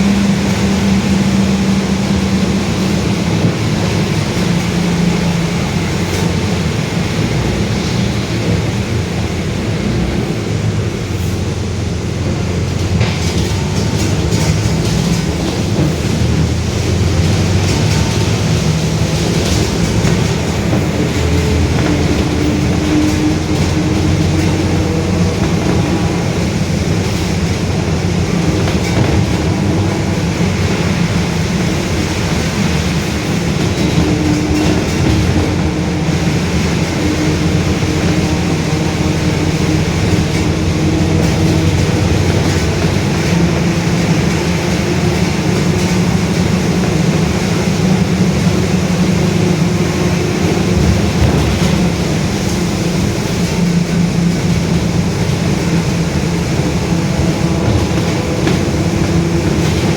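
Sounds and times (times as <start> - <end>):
bus drivetrain and road noise: 0.0 - 59.9.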